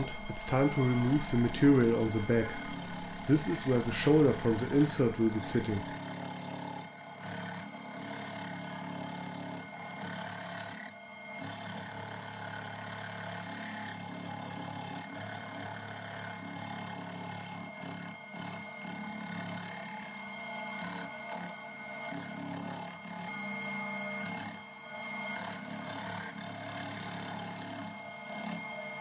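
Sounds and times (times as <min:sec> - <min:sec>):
milling machine motor hum: 0:00.0 - 0:29.0.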